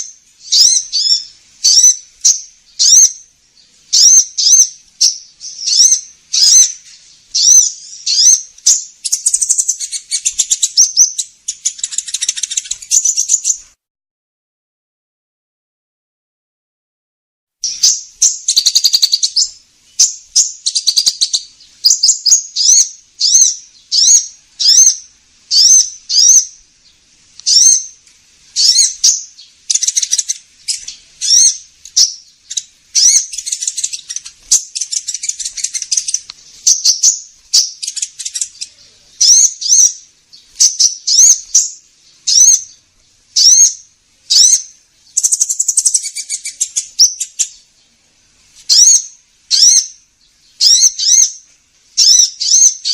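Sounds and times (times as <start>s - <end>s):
bird chirps and buzzy trills: 0.0s - 13.8s, 17.6s - 52.9s.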